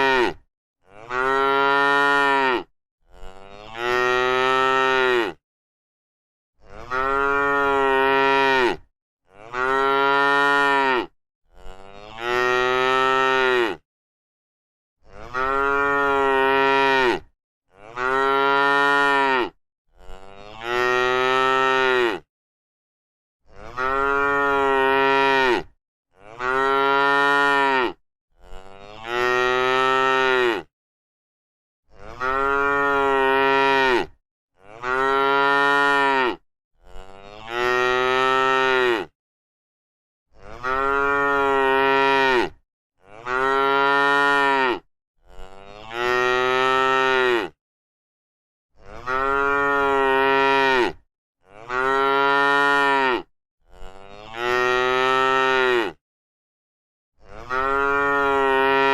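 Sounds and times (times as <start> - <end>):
cow mooing: 0.0 - 5.4, 6.6 - 13.8, 15.0 - 22.3, 23.5 - 30.7, 32.0 - 39.1, 40.4 - 47.6, 48.8 - 56.0, 57.2 - 58.9.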